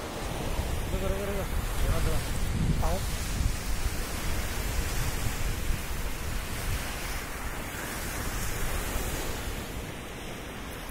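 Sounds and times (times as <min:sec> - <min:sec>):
sea surf on beach: 0:00.0 - 0:10.9
wind noise on microphone: 0:00.0 - 0:10.9.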